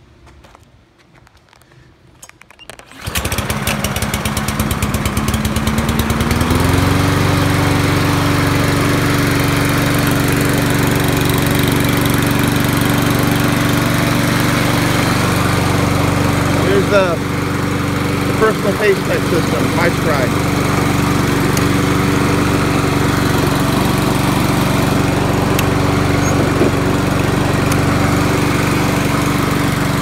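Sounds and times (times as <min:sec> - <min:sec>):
lawn mower engine running: 0:02.6 - 0:30.0.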